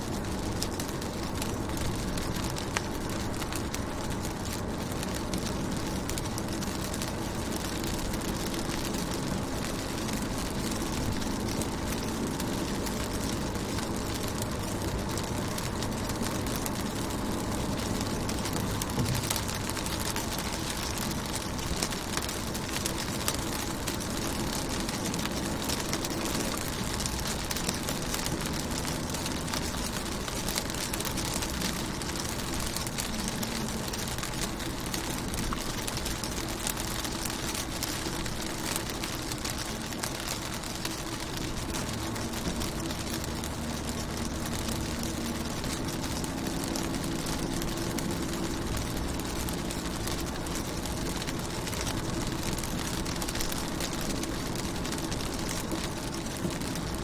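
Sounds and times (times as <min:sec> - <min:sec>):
rain pattering on a car: 0:00.0 - 0:57.0.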